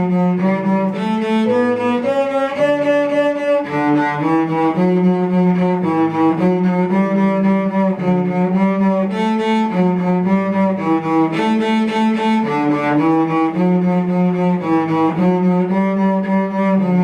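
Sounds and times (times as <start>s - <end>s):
cello playing slow melody: 0.0s - 17.0s.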